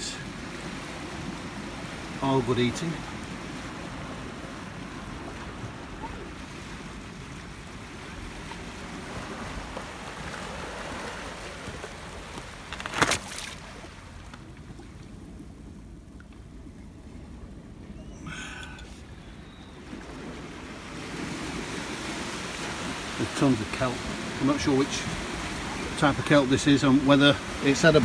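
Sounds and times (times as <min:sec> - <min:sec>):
sea surf: 0:00.0 - 0:15.8, 0:16.6 - 0:28.0.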